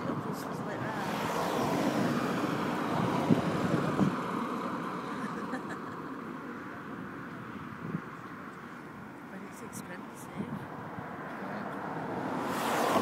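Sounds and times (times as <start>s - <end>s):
road vehicle passing: 0.0s - 13.0s.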